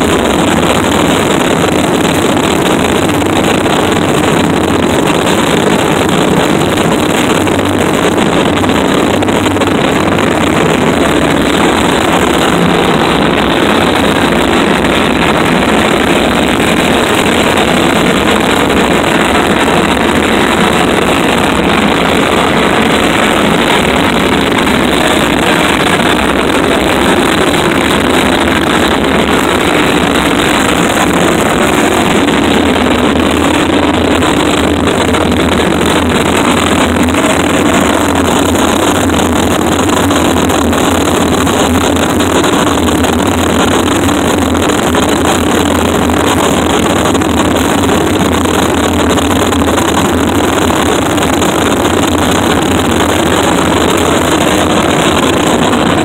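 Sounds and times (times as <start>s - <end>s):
distorted noise music: 0.0s - 56.0s
low rumble: 0.0s - 56.0s.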